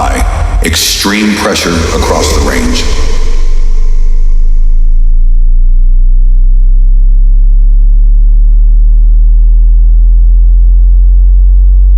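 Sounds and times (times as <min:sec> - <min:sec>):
deep sine tone gliding upward: 0:01.7 - 0:11.9.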